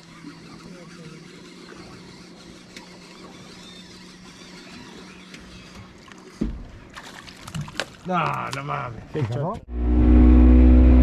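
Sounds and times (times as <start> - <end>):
boat motor idling: 0.0 - 9.0.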